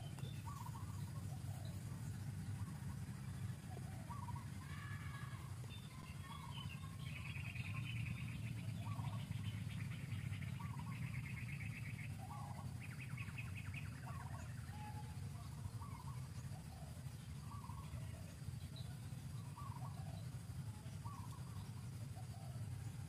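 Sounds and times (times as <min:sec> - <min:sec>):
bird chirps: 0:00.0 - 0:23.0
bird trill: 0:00.0 - 0:23.0
steady low rumble: 0:00.0 - 0:23.0.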